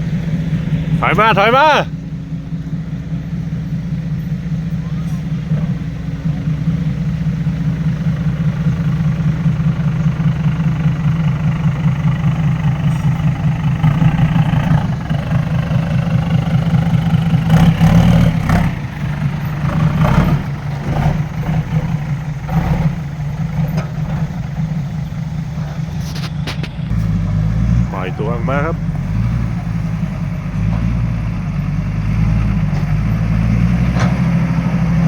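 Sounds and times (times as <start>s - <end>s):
truck diesel engine running: 0.0s - 35.0s.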